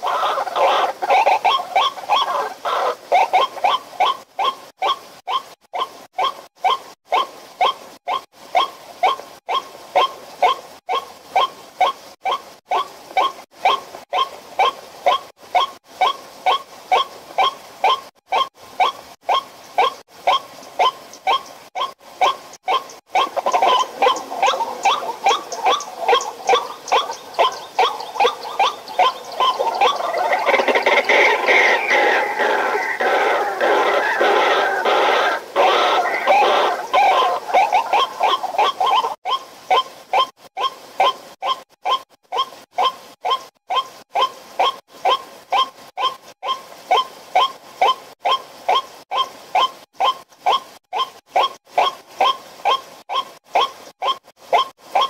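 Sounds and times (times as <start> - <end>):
bird calling: 0.0 - 55.0.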